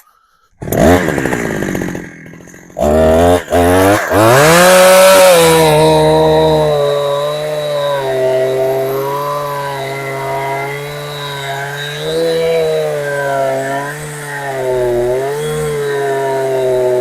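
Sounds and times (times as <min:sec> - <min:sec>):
chainsaw engine revving: 0:00.6 - 0:17.0.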